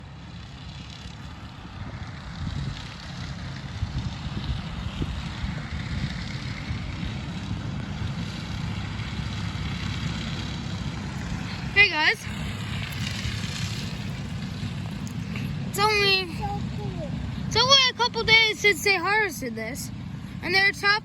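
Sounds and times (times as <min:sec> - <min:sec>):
tractor engine running: 0:00.0 - 0:21.0
tractor mowing corn stalks: 0:00.0 - 0:21.0.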